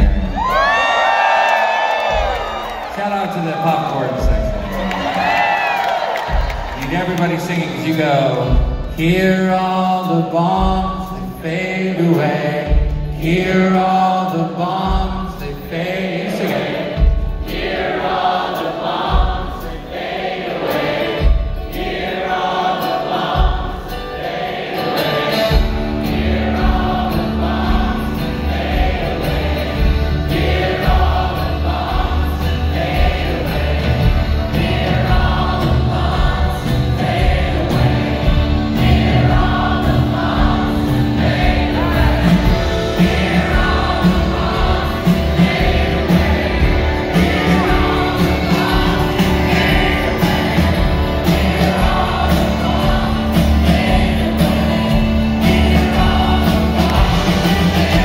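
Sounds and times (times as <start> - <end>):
drums: 0.0 - 58.0
voices singing together: 3.9 - 58.0
acoustic guitar: 4.2 - 58.0.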